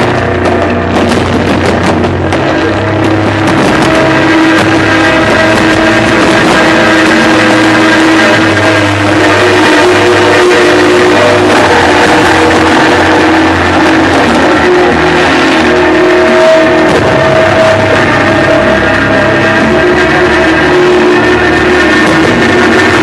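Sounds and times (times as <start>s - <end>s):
loud music with guitar-like notes: 0.0s - 23.0s.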